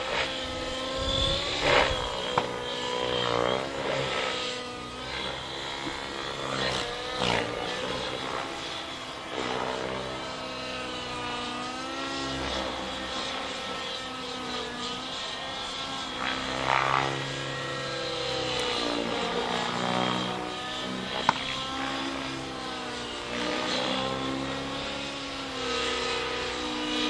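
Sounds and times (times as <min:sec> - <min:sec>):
model helicopter motor whining: 0:00.0 - 0:27.0.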